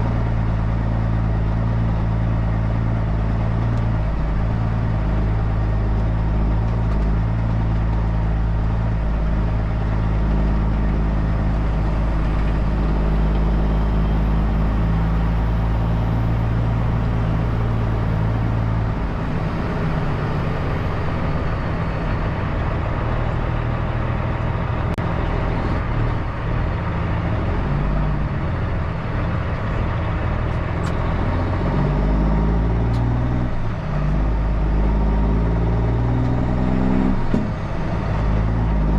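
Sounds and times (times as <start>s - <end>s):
diesel truck engine running: 0.0s - 38.9s
road and cab noise: 0.0s - 38.9s.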